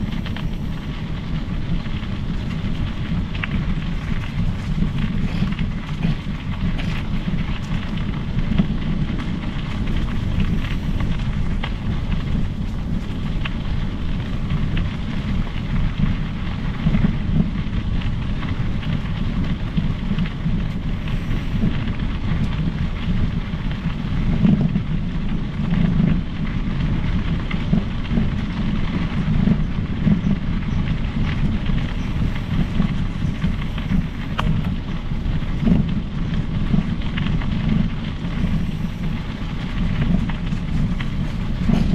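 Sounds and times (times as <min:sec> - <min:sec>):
mountain bike tyres rolling: 0:00.0 - 0:41.9
small uneven crackles: 0:00.0 - 0:41.9
wind rumble on microphone: 0:00.0 - 0:41.9.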